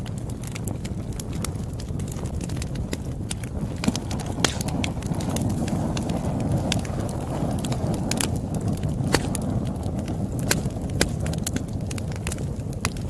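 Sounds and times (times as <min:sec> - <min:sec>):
campfire crackling and popping: 0:00.0 - 0:13.0
low rumble of burning fire: 0:00.0 - 0:13.0.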